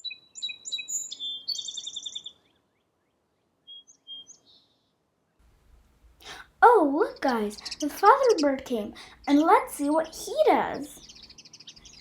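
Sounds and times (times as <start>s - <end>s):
songbird chirping and trilling: 0.0s - 5.4s, 6.6s - 12.0s.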